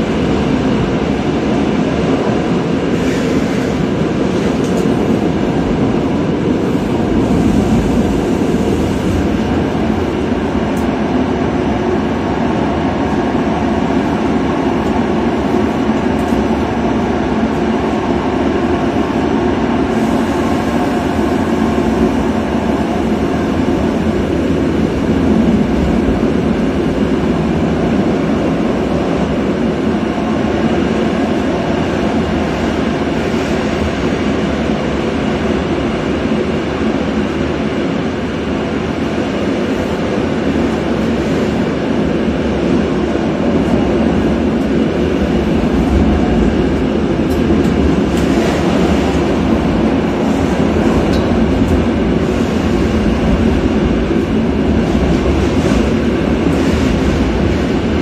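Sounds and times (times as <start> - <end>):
passenger train running: 0.0 - 58.0.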